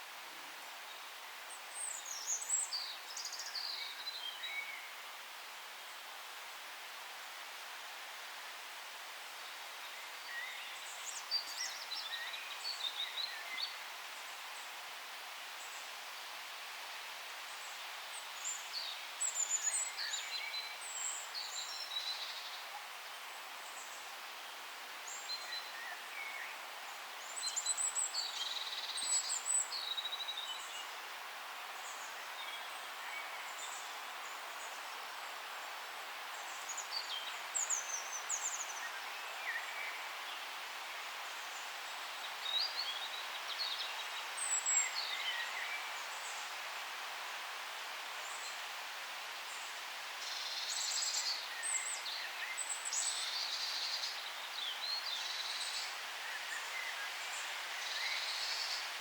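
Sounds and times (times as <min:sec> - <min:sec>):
forest background hiss: 0:00.0 - 0:59.0.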